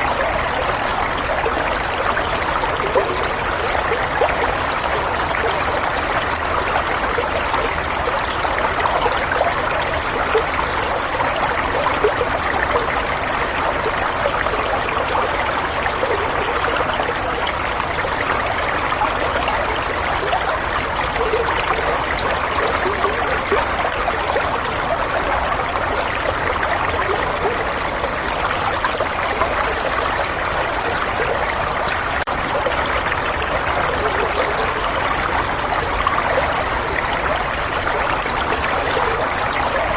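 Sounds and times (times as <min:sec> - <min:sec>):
running water burbling: 0:00.0 - 0:39.9.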